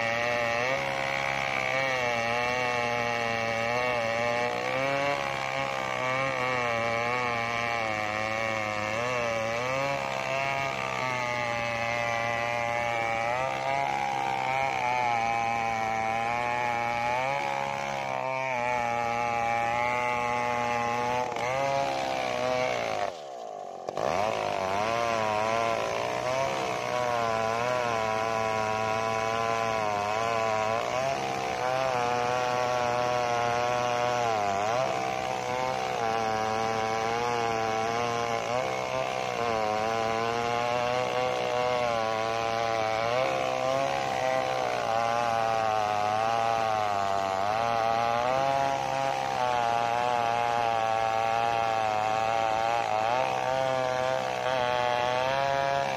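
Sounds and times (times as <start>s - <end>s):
chainsaw cutting a log: 0.0s - 55.9s.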